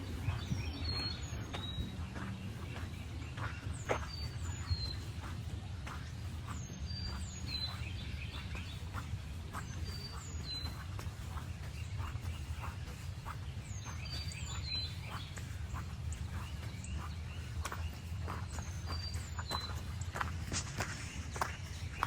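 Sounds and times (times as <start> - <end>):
birds whistling: 0.0 - 22.0
footsteps on a forest path: 0.0 - 22.0
steady low rumble: 0.0 - 22.0.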